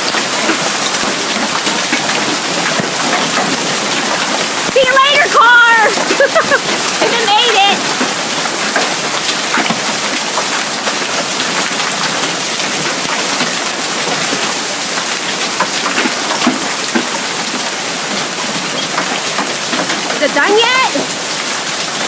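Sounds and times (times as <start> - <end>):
heavy rain and hail: 0.0 - 22.0.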